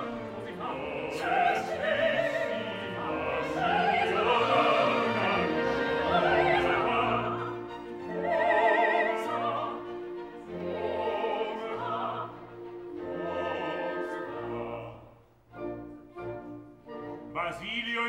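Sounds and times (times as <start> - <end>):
classical orchestra: 0.0 - 18.0
operatic singing with vibrato: 0.0 - 18.0.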